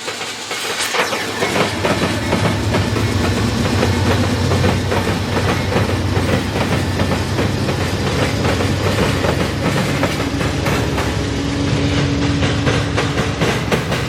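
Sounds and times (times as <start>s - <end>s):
railroad cars rumbling: 1.4s - 14.0s
wheels clicking over rail joints: 1.8s - 14.0s.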